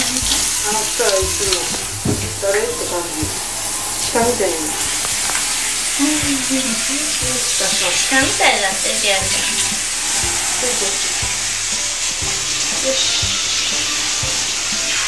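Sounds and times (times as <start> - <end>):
shower spraying water: 0.0 - 15.0.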